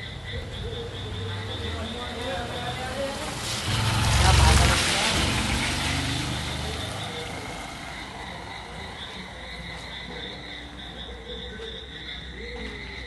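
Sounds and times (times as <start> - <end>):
vehicle engine: 0.0 - 11.2.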